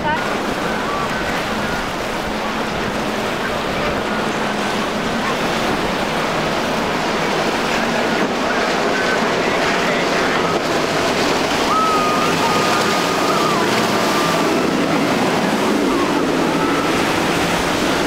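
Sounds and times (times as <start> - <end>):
hulls rushing through choppy water: 0.0 - 18.0
outboard boat engines: 0.0 - 18.0.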